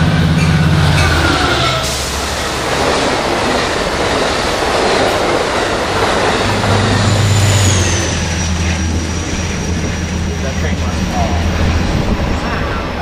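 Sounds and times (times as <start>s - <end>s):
diesel locomotive engine hum: 0.0s - 13.0s
train wheels rumbling on rails: 0.0s - 13.0s.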